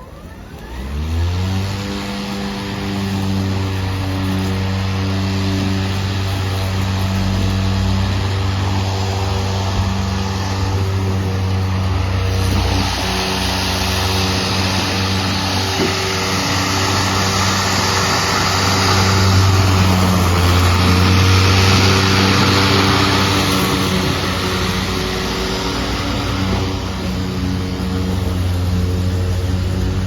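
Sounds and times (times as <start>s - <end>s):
electric lawn mower mowing: 0.0s - 30.0s.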